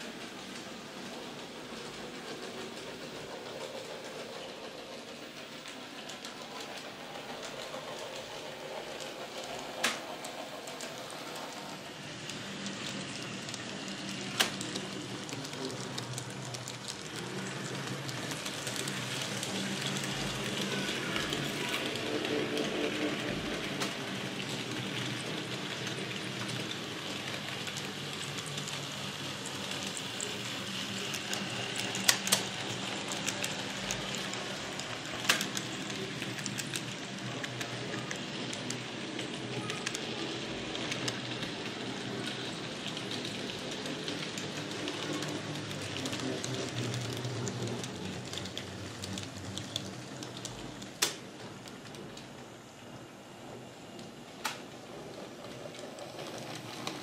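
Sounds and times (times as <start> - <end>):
model train wheels rattling on track: 0.0 - 57.0.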